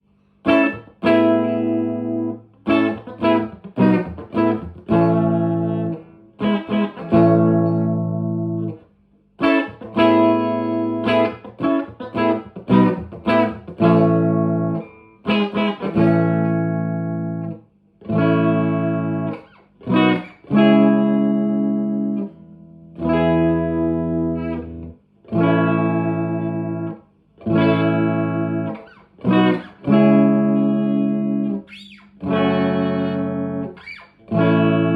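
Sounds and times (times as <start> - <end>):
electric guitar chords: 0.4 - 34.9.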